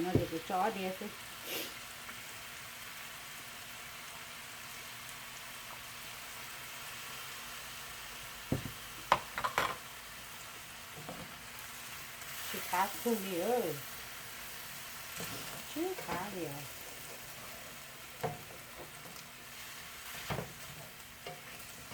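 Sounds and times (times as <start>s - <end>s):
chicken sizzling in a pan: 0.0s - 21.9s.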